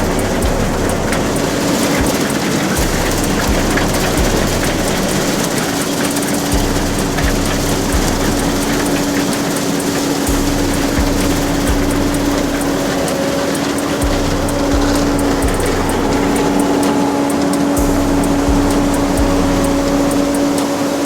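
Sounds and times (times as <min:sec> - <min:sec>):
farm machinery engine drone: 0:00.0 - 0:21.0
low regular thumps: 0:00.0 - 0:21.0
rushing rattle: 0:00.0 - 0:21.0.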